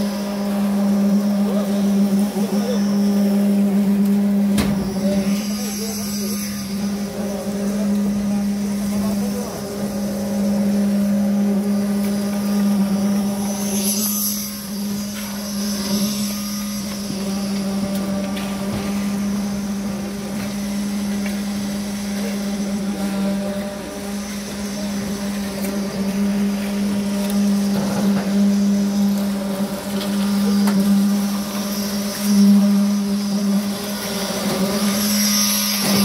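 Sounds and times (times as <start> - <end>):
concrete vibrator humming: 0.0 - 36.0.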